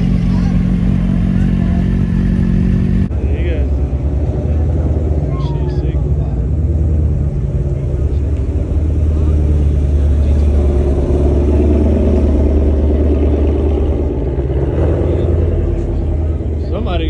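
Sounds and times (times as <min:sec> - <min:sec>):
car engine passing slowly: 0:00.0 - 0:17.0.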